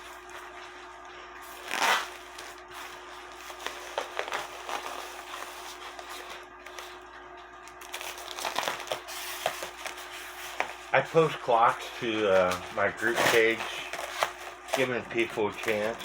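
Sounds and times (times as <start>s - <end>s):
packing material crinkling and rustling: 0.0s - 16.0s.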